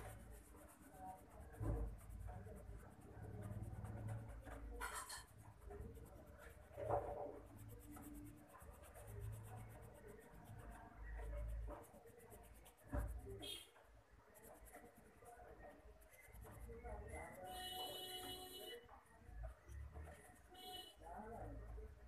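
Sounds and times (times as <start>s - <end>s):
pencil scratching on paper: 0.0s - 18.5s.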